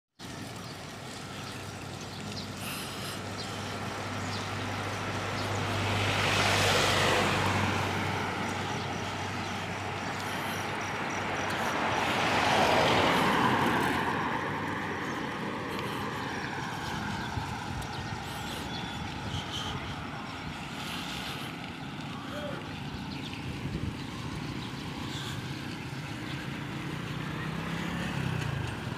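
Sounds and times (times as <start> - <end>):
road and wind noise: 0.2 - 28.9
vehicles passing close by: 0.2 - 28.9.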